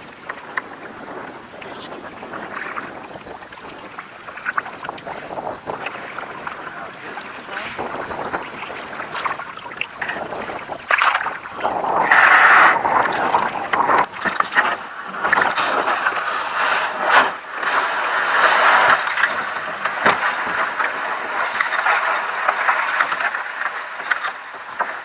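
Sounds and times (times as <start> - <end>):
hull scraping on sand: 0.0 - 25.0
water lapping against hull: 0.0 - 25.0.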